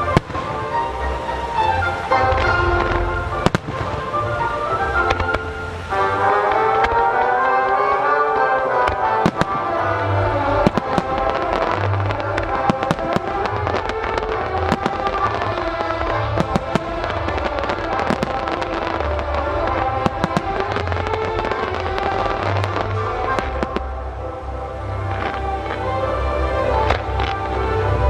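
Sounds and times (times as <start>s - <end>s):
music with sustained melody: 0.0s - 28.0s.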